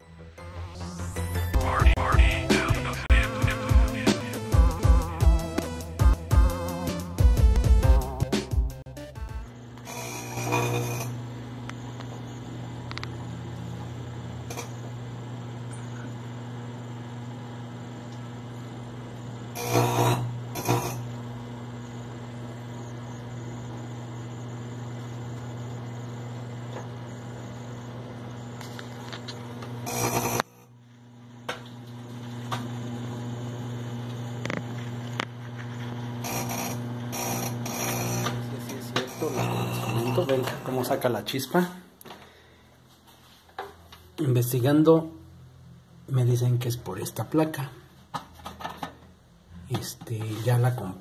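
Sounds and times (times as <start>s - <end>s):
microwave oven humming: 0.4s - 51.0s.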